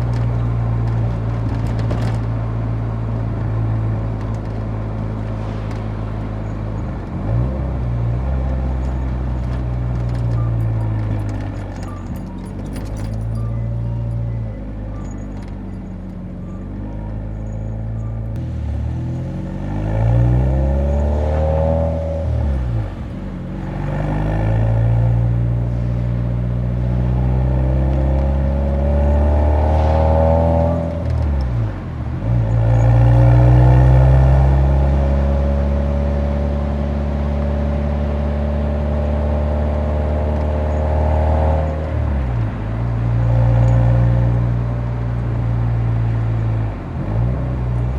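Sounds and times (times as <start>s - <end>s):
car exhaust accelerating: 0.0s - 47.9s.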